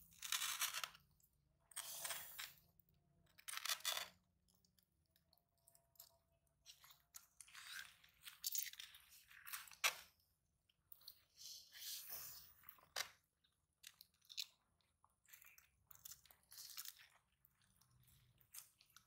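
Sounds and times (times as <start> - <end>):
tortoises crunching vegetables: 0.0 - 19.0.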